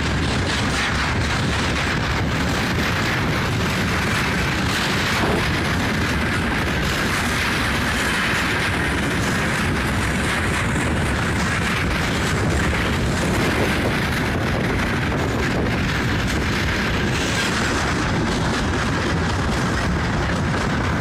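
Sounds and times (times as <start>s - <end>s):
train wheels rattling on rails: 0.0s - 21.0s.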